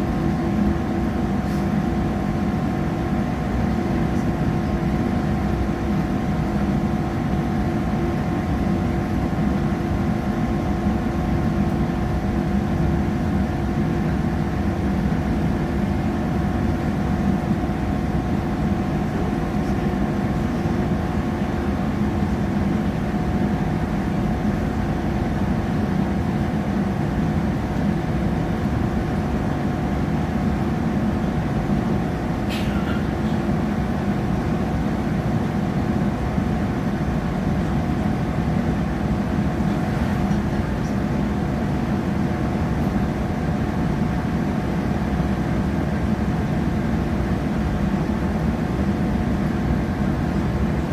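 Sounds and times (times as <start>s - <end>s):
train carriage running rumble: 0.0s - 50.9s.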